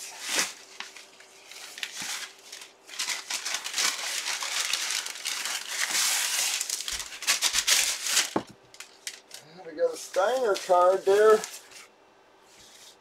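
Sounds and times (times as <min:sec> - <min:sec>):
packing paper crinkling: 0:00.0 - 0:11.9.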